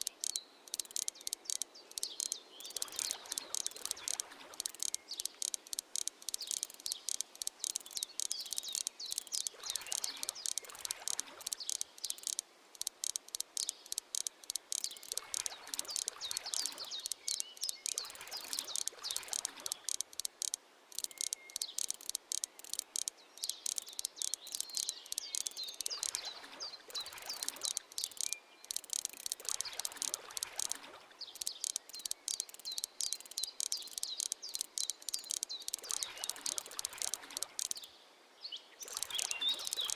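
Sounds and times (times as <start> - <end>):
insects chirping trill: 0.0 - 37.9, 38.8 - 39.9.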